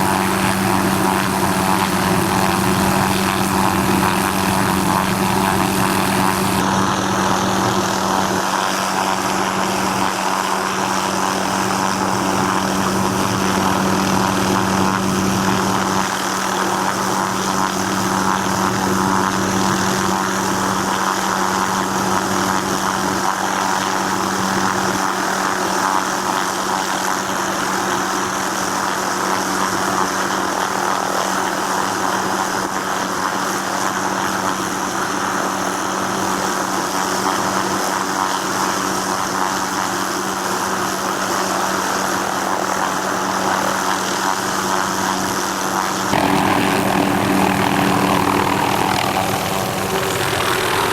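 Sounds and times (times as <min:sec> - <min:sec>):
propeller aircraft engine running: 0:00.0 - 0:50.9.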